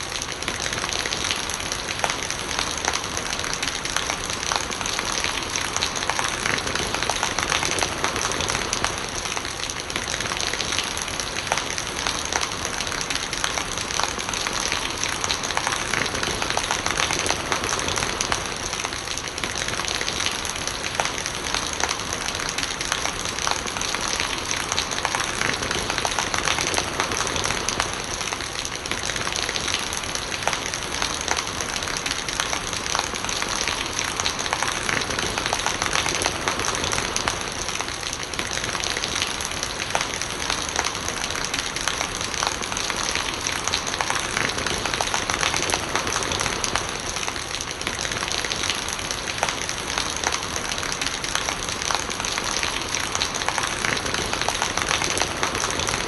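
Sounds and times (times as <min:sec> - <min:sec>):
heavy rain: 0:00.0 - 0:56.0
raindrops ticking on surfaces: 0:00.0 - 0:56.0
rainwater running and gurgling: 0:00.0 - 0:56.0.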